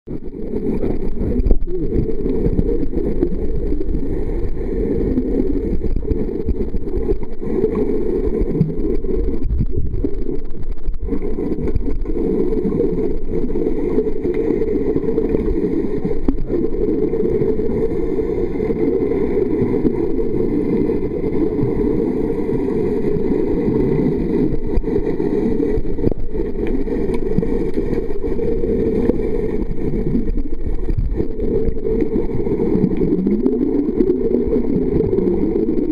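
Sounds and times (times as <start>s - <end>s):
muffled underwater rumble: 0.1s - 35.9s.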